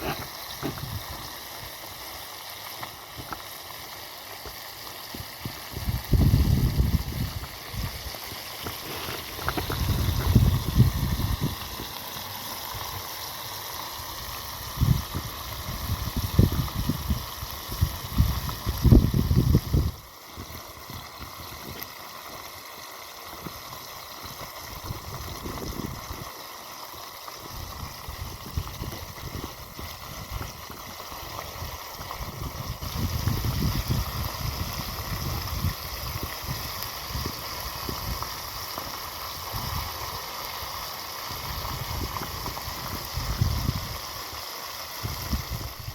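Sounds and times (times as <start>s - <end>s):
running or bubbling water: 0.0s - 45.9s.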